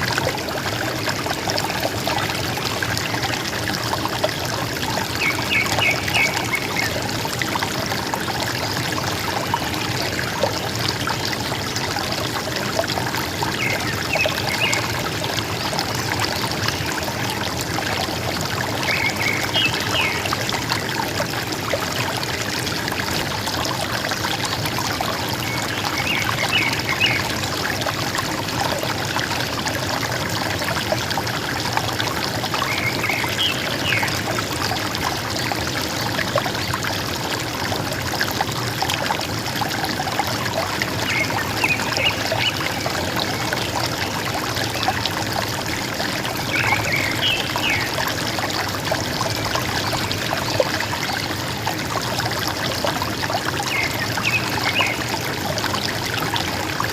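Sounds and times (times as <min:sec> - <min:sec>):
river water gurgling: 0:00.0 - 0:56.9.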